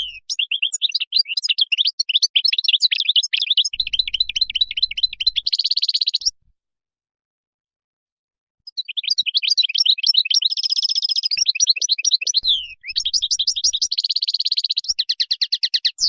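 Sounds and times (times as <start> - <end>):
goldfinch singing: 0.0 - 6.4, 8.7 - 16.0.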